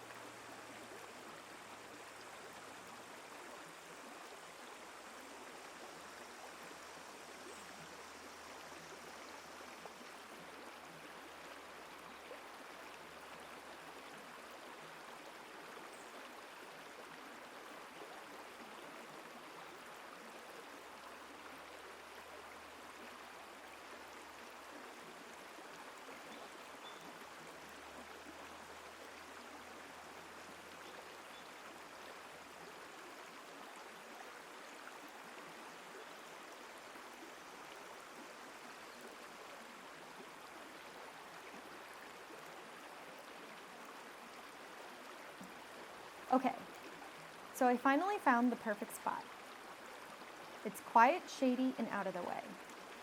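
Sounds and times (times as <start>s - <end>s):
running water: 0.0s - 53.0s.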